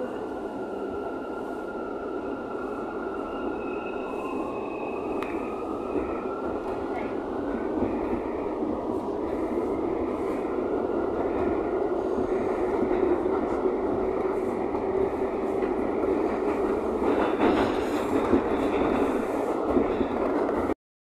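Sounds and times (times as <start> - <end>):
subway train rumble and hum: 0.0 - 20.8.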